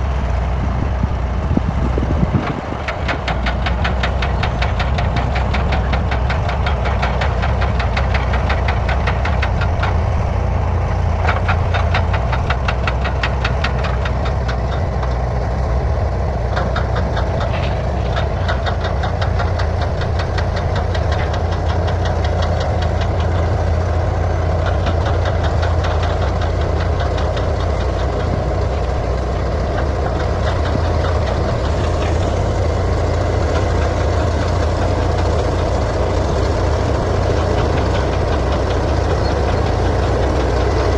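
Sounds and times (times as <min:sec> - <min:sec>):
bulldozer diesel engine running: 0:00.0 - 0:40.9
rapid clatter of clicks: 0:02.8 - 0:10.0, 0:11.2 - 0:15.2, 0:16.5 - 0:40.9.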